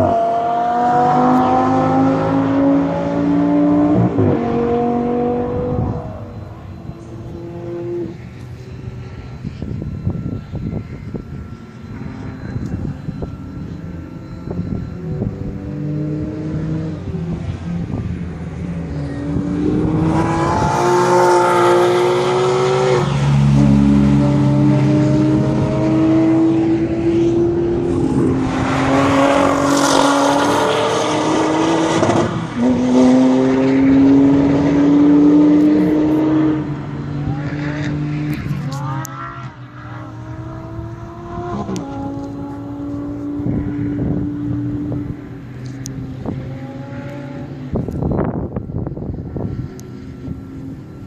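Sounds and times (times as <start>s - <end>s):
sports car accelerating hard: 0.0s - 8.9s, 9.8s - 51.0s.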